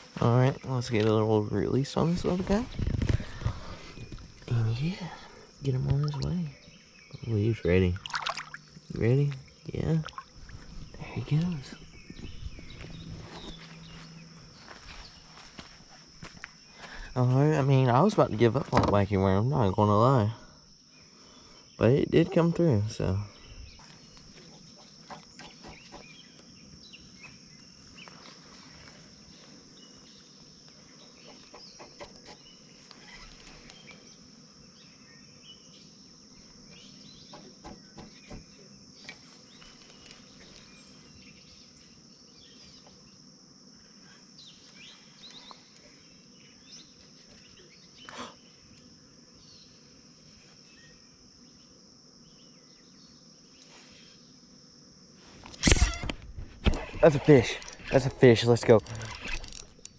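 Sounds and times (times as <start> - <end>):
high-pitched insect drone: 0.0 - 59.9.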